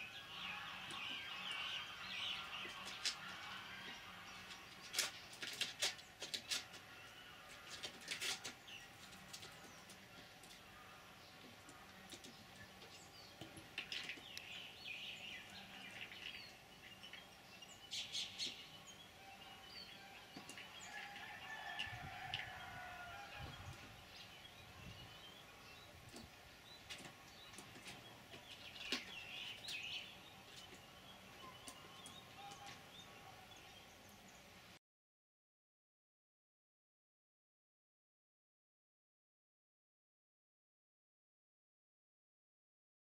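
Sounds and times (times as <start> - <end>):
small birds chirping: 0.0 - 34.7.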